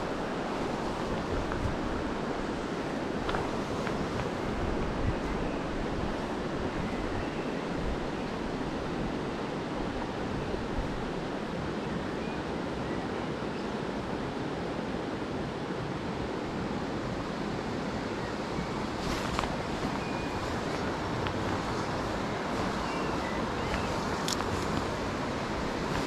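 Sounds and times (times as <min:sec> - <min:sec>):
river flowing over stones: 0:00.0 - 0:13.3, 0:14.1 - 0:26.0.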